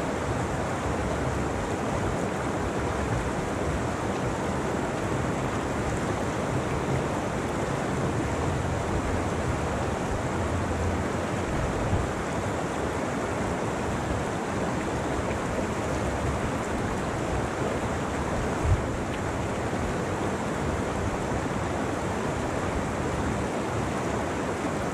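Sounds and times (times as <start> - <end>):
creek rushing over rocks: 0.0 - 24.9.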